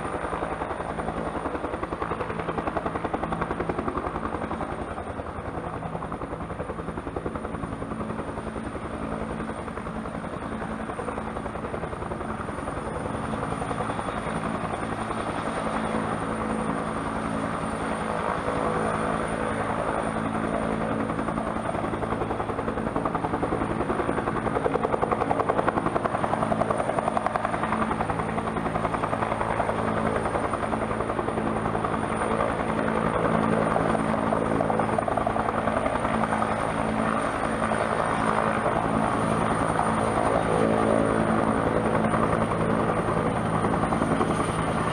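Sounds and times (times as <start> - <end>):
helicopter rotor beat: 0.0 - 44.9
high turbine whine: 0.0 - 44.9.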